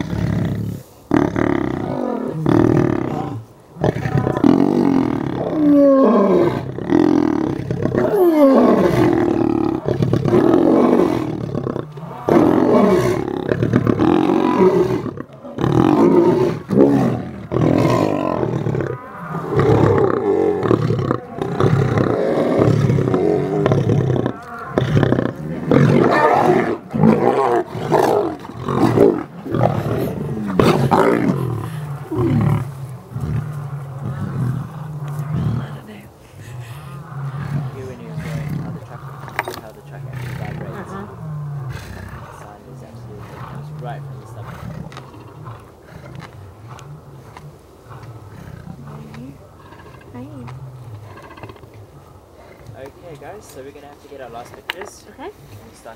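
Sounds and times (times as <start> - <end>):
lions calling: 0.0 - 53.5.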